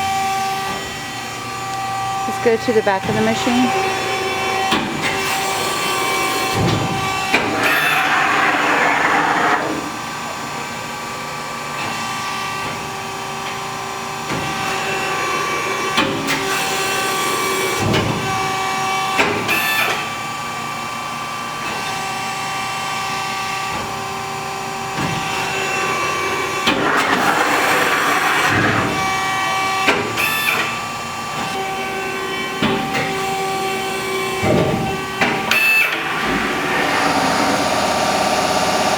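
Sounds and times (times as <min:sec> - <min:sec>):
folding machine humming: 0:00.0 - 0:38.9.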